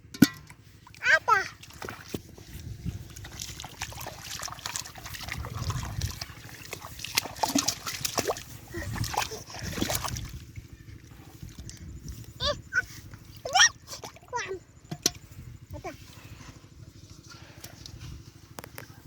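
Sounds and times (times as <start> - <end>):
splashing in shallow water: 0.0 - 15.4.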